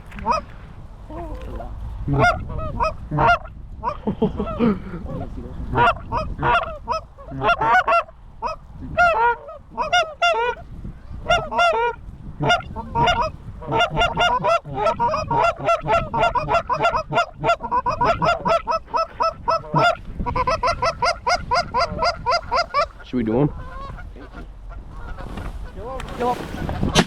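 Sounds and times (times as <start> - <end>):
geese honking and clucking: 0.0 - 27.0.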